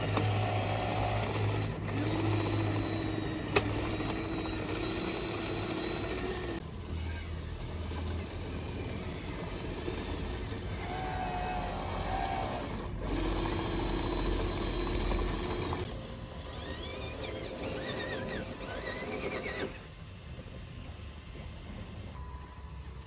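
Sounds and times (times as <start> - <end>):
small electric motors whining: 0.0 - 20.0.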